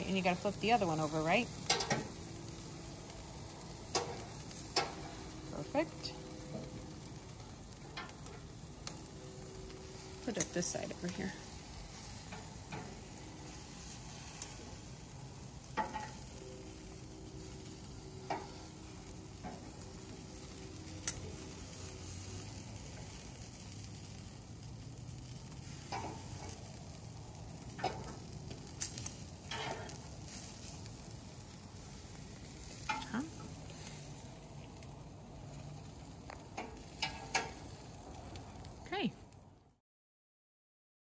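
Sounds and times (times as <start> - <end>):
chicken sizzling in a pan: 0.0 - 39.1.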